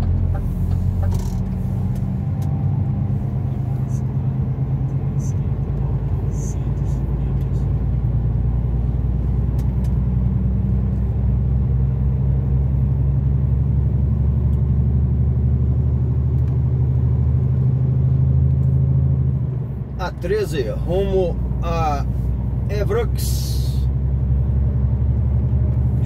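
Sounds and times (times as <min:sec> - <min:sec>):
truck diesel engine drone: 0:00.0 - 0:26.0.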